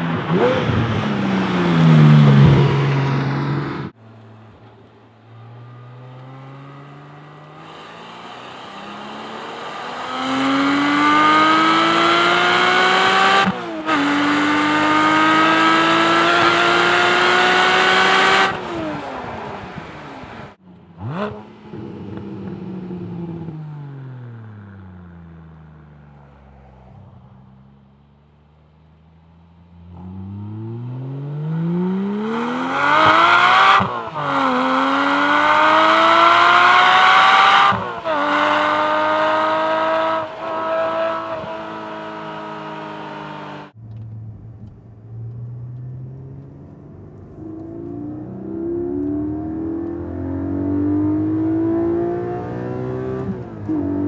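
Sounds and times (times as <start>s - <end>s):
car engine accelerating hard: 0.0s - 28.0s, 29.2s - 54.0s.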